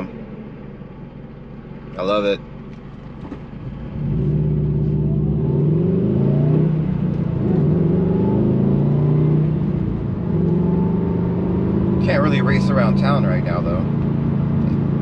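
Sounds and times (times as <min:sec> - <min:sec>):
car engine accelerating: 0:02.6 - 0:15.0.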